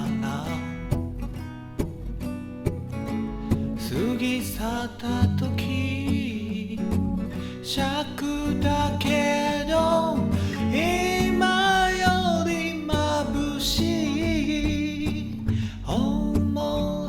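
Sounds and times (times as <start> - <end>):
man singing: 0.0 - 1.0, 3.8 - 17.0
acoustic guitar: 0.0 - 17.0.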